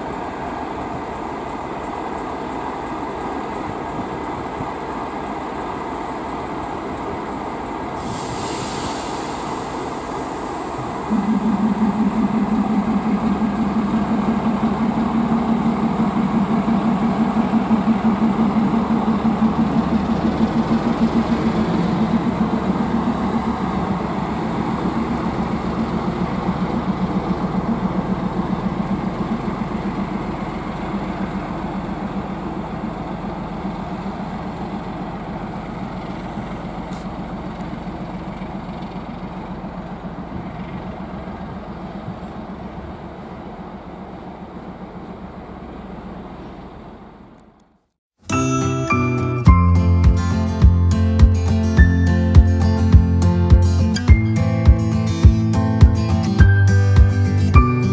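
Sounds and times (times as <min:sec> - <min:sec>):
diesel locomotive engine pulsing: 0:00.0 - 0:57.9.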